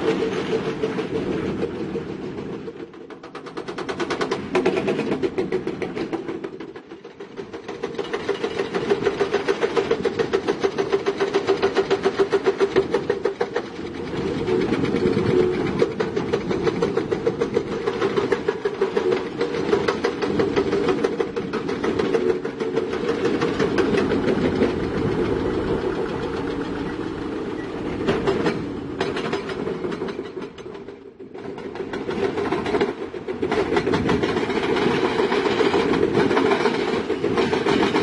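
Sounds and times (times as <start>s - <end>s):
rapid even clanking of tracks: 0.0s - 38.0s.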